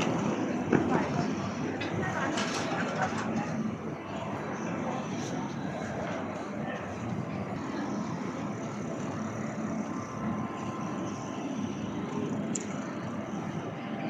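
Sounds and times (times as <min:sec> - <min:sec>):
busy railway station din: 0:00.0 - 0:14.0.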